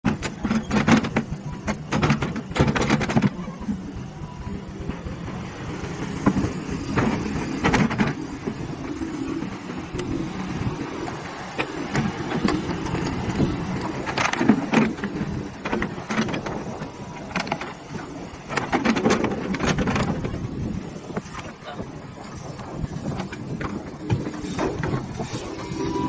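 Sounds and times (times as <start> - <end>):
excavator diesel engine: 0.0 - 20.8, 21.5 - 26.0.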